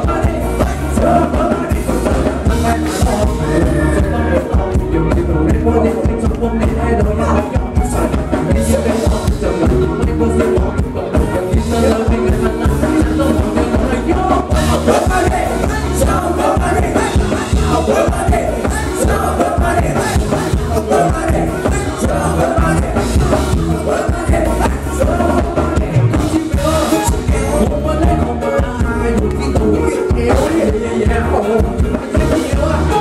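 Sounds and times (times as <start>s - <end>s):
live band music over loudspeakers: 0.0s - 33.0s
man singing into a microphone: 0.0s - 33.0s.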